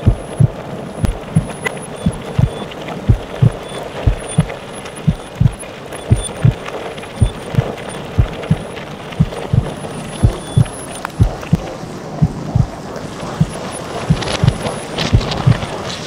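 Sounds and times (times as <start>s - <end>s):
heartbeat thumps: 0.0s - 6.6s, 7.2s - 15.7s
constant hiss: 0.0s - 16.0s.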